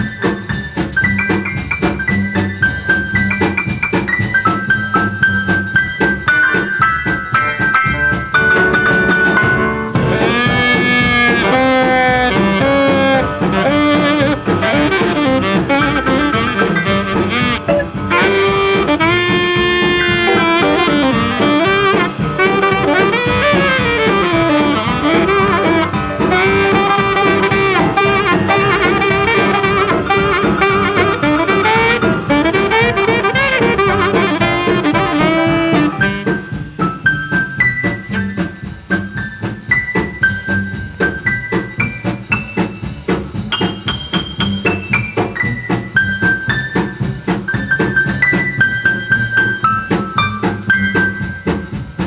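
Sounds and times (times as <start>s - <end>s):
jazz with brass horns: 0.0s - 52.0s.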